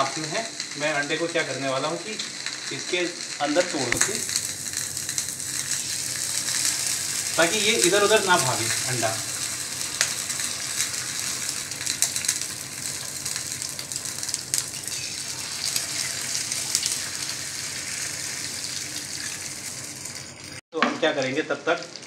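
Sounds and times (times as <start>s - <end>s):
eggs sizzling in hot oil: 0.0s - 22.0s.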